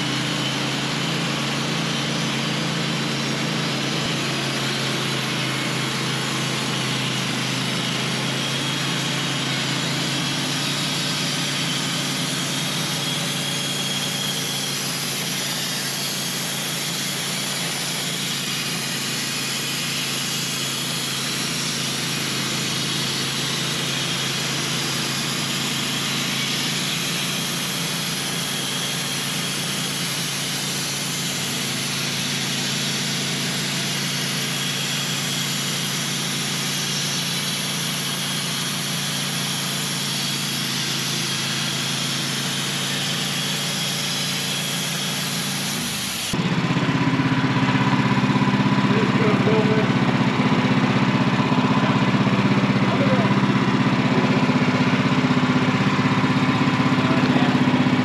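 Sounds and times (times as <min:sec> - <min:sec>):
band blade sawing wood: 0:00.0 - 0:46.4, 0:47.3 - 0:58.0
gas engine running under load: 0:00.0 - 0:58.0.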